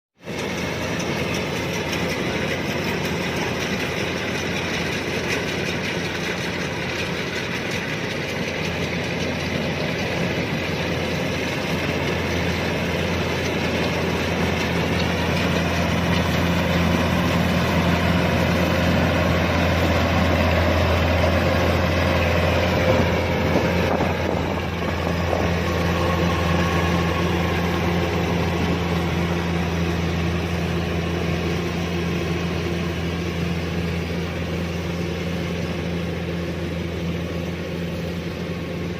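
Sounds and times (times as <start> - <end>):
combine harvester mechanical drone: 0.2 - 38.9.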